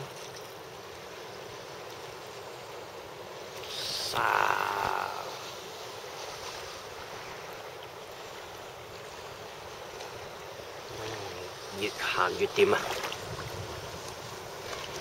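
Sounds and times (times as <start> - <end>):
small choppy waves: 0.0 - 15.0
wind: 0.0 - 15.0.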